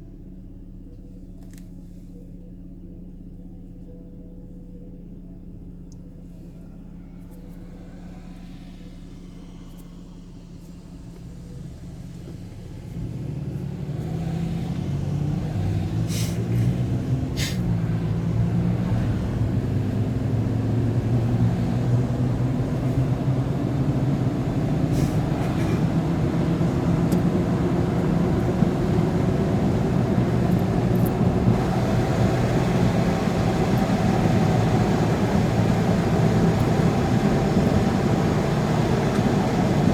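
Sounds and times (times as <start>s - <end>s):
vehicle engine idling and accelerating: 0.0s - 39.9s
road noise: 7.0s - 39.9s.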